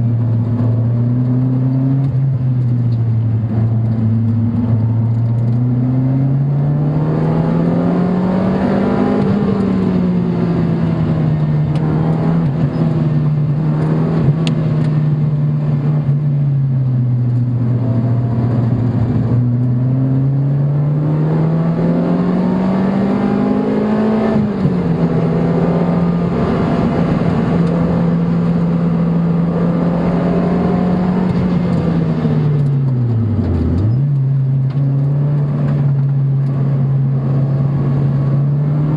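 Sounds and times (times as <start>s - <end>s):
car engine revving: 0.0s - 38.9s
wind and tyre noise: 0.0s - 38.9s.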